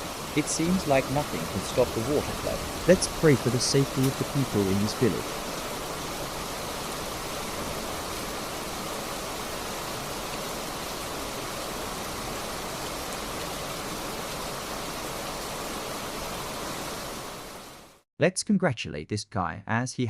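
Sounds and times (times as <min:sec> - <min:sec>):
flood water rushing: 0:00.0 - 0:17.8.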